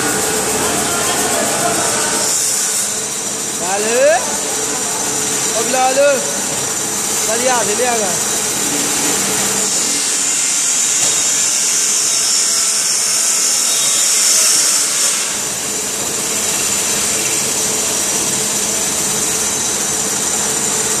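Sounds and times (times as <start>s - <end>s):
metal lathe hum and hiss: 0.0s - 21.0s.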